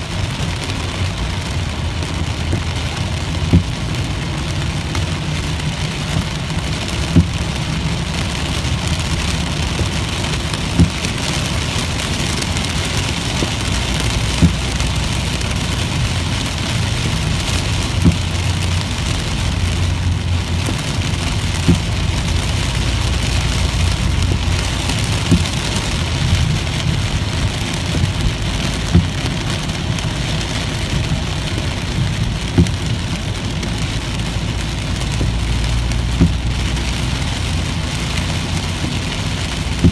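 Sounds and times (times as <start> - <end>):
rain pattering on car: 0.0 - 39.9
road and engine rumble: 0.0 - 39.9
windshield wiper knock: 2.2 - 33.8, 34.6 - 39.9.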